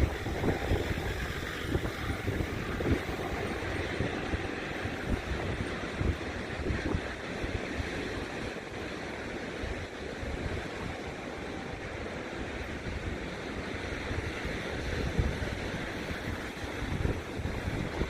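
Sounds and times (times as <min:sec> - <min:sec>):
ocean surf washing on shore: 0:00.0 - 0:18.0
wind gusting against microphone: 0:00.0 - 0:18.0.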